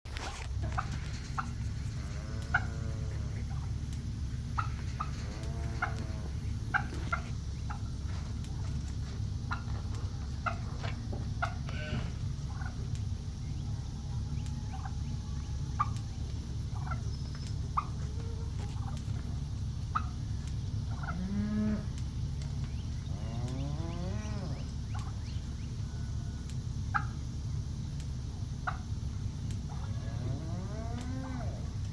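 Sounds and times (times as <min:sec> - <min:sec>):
steady low rumble: 0:00.0 - 0:31.9
farm animals calling: 0:00.1 - 0:31.9.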